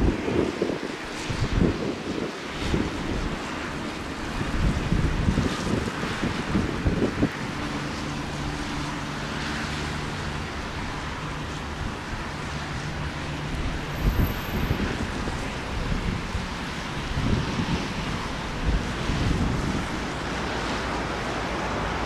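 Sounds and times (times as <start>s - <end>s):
jet engines rushing: 0.0s - 22.0s
wind buffeting microphone: 0.0s - 22.0s.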